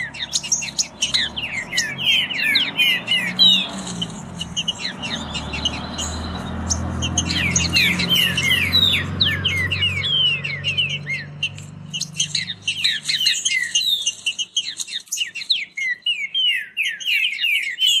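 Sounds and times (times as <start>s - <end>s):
birds singing whistled notes: 0.0s - 18.0s.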